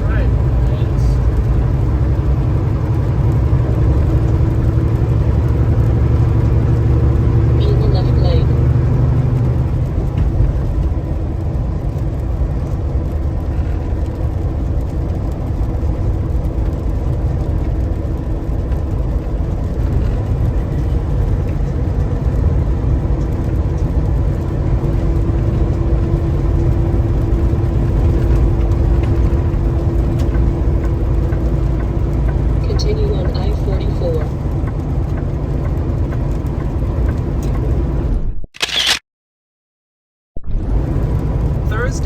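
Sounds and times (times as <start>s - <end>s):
road noise: 0.0s - 39.0s, 40.4s - 42.0s
truck engine drone: 0.0s - 39.0s, 40.4s - 42.0s.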